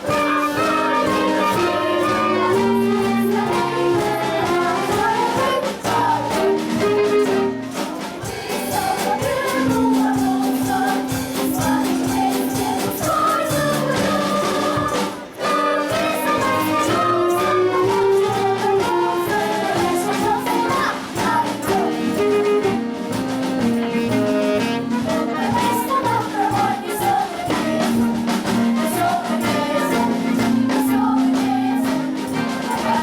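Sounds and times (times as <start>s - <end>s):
instrumental accompaniment with beat: 0.0s - 33.0s
voices singing in chorus: 0.0s - 33.0s.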